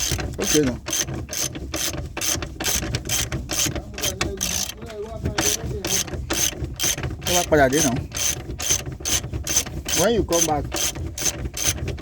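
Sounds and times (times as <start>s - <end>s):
ratchet wrench clicking: 0.0s - 4.8s, 5.4s - 11.8s.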